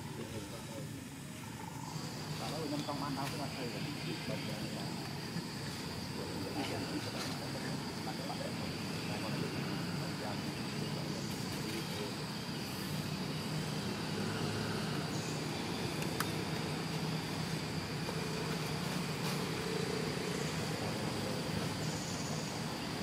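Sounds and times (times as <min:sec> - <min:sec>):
high insect drone: 0:00.0 - 0:23.0
low hum of distant traffic: 0:00.0 - 0:23.0.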